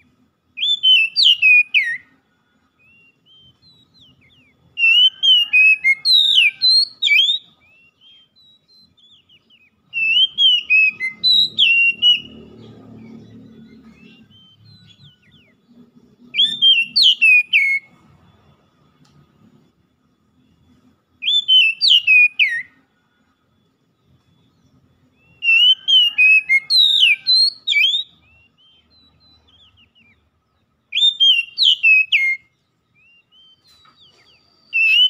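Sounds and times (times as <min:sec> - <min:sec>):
bird singing whistled phrases: 0:00.0 - 0:18.0, 0:21.1 - 0:22.9, 0:24.3 - 0:35.0.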